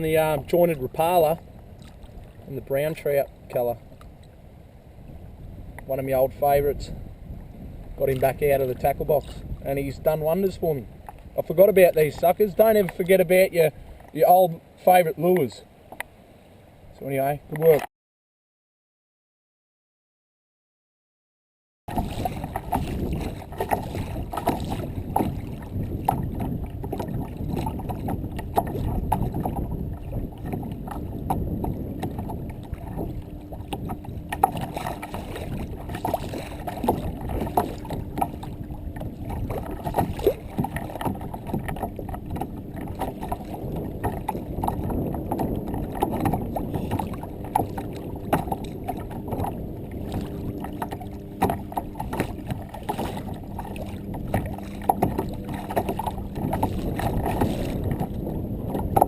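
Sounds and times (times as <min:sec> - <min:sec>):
water sloshing against hull: 0:00.0 - 0:17.9, 0:21.9 - 0:59.0.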